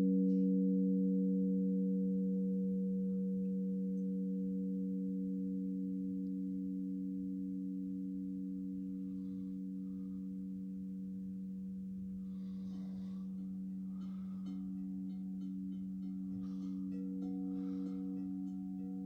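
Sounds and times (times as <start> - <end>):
singing bowls ringing: 0.0 - 19.0.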